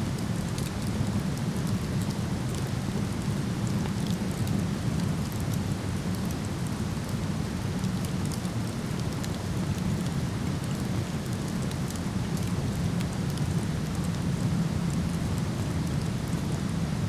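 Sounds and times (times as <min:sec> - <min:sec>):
campfire crackles: 0:00.1 - 0:17.0.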